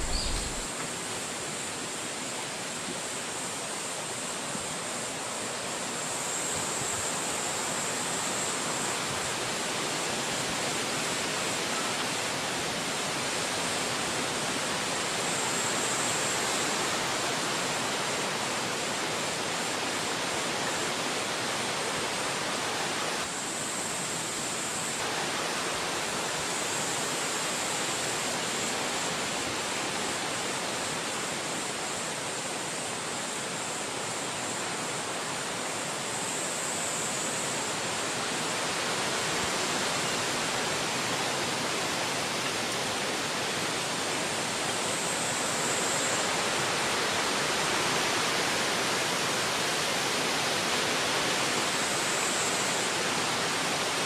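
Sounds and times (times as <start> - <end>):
wind rushing through trees: 0.0 - 54.0.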